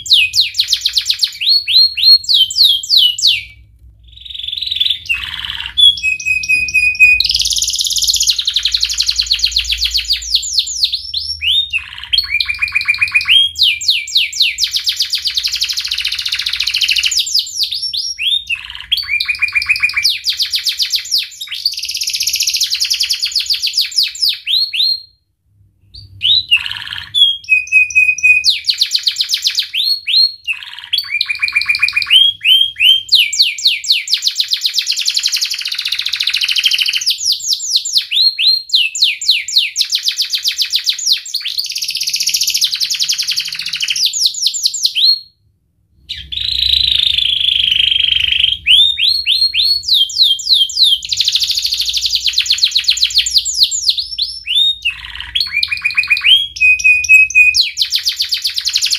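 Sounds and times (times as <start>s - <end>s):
canary singing trills: 0.0s - 25.1s, 25.9s - 45.2s, 46.0s - 58.9s.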